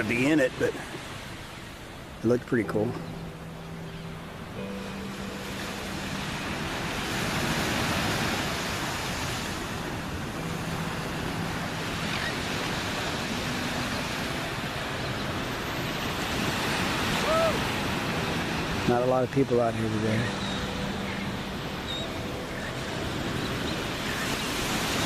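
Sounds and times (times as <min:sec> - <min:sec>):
ocean surf washing onto beach: 0:00.0 - 0:25.0.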